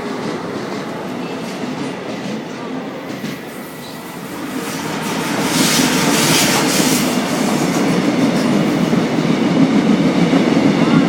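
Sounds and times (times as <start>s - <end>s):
train wheels rolling over rails: 0.0s - 11.0s.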